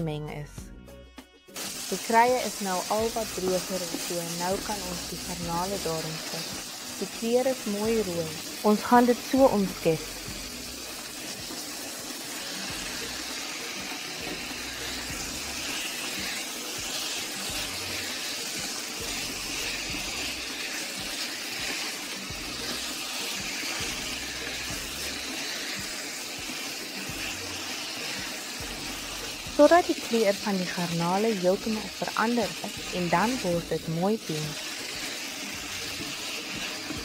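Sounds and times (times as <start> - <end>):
prawns sizzling in a wok: 1.4 - 37.0.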